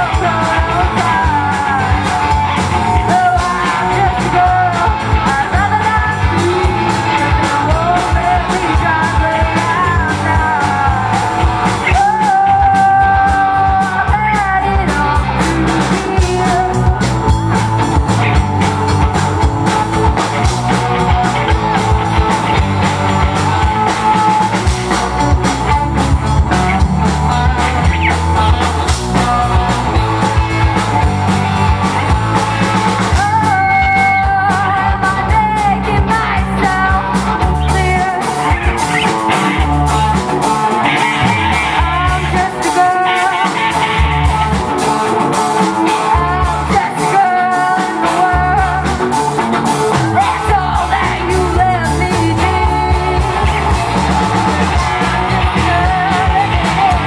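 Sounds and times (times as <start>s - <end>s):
live rock band playing: 0.0s - 57.0s
singer holding long notes: 0.0s - 57.0s.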